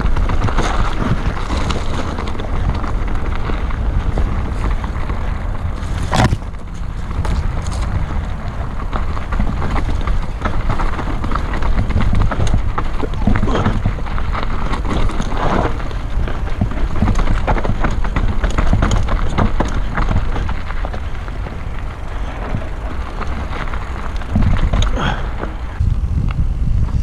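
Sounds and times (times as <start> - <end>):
bike clattering over rocks: 0.0 - 25.8
wind buffeting microphone: 0.0 - 27.0.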